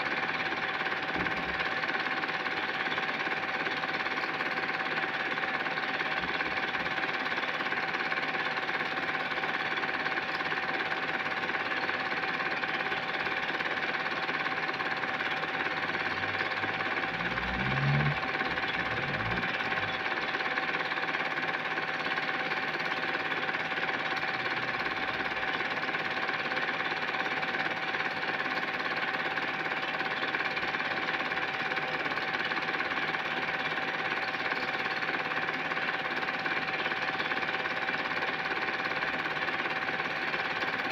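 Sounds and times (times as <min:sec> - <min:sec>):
film projector clattering: 0:00.0 - 0:40.9.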